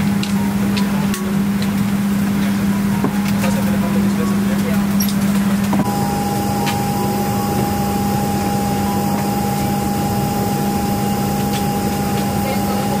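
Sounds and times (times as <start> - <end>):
steady high whine: 0.0 - 13.0
low hum: 0.1 - 13.0.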